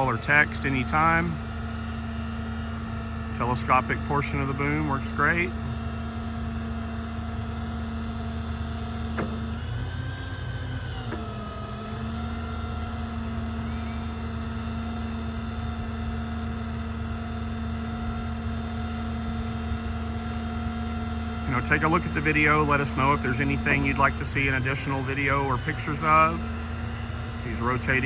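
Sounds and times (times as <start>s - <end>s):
engine driving hydraulic pump: 0.0s - 28.0s.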